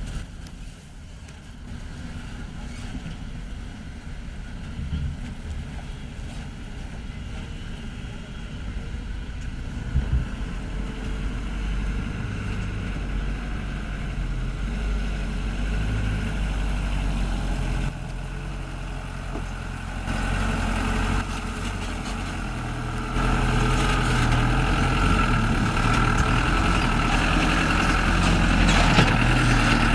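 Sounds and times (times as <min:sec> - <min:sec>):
truck engine rumbling: 0:00.0 - 0:29.9.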